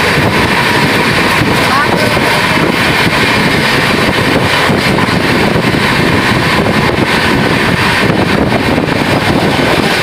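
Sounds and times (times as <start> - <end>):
train wheels rumbling on rails: 0.0 - 10.0
wind buffeting the microphone: 0.0 - 10.0
wind rushing: 0.0 - 10.0.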